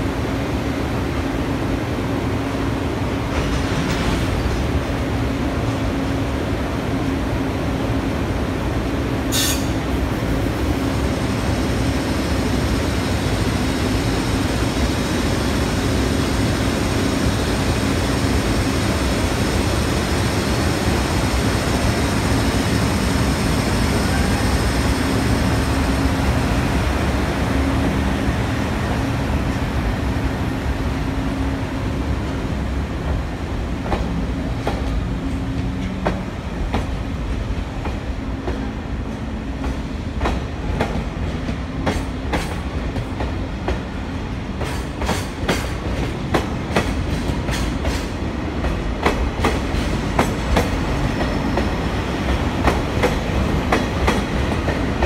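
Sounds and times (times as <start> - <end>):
electric locomotive whirring hum: 0.0 - 55.0.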